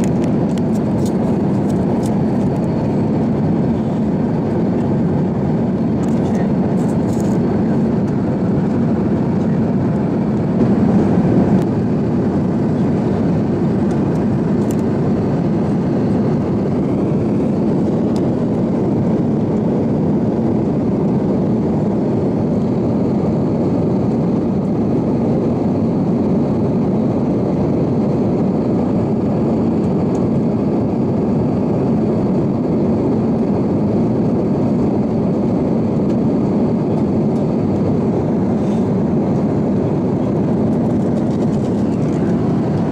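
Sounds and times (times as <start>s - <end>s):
airliner cabin noise: 0.0s - 42.9s.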